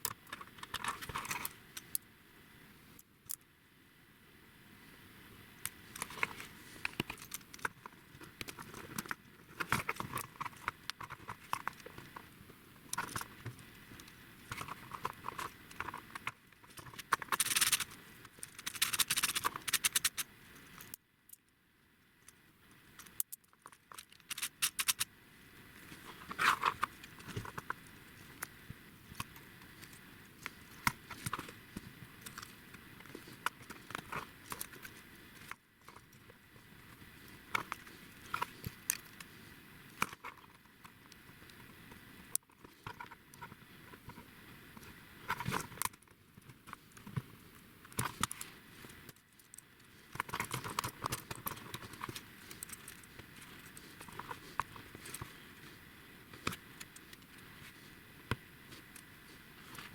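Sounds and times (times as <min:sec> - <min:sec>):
small hard parts clicking and rattling: 0:00.0 - 0:02.0, 0:05.6 - 0:21.6, 0:22.2 - 0:59.9.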